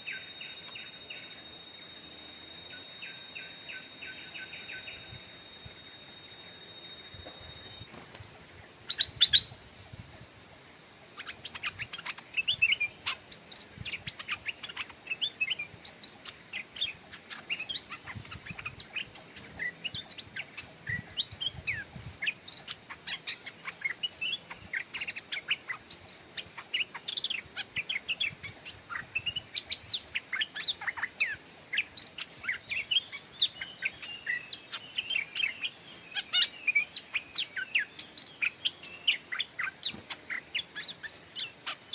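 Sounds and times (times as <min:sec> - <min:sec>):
bulbuls chirping: 0:00.0 - 0:09.6, 0:11.2 - 0:41.9.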